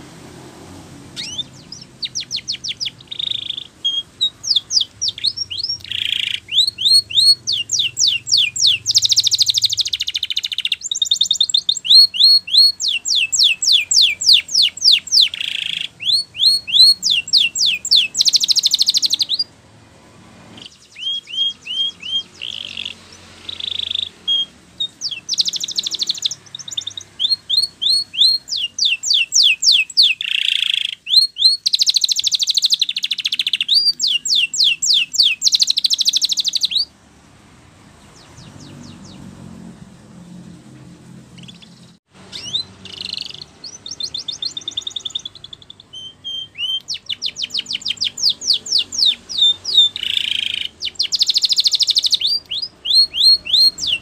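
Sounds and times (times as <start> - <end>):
canary singing: 0.9 - 37.0, 37.9 - 54.0.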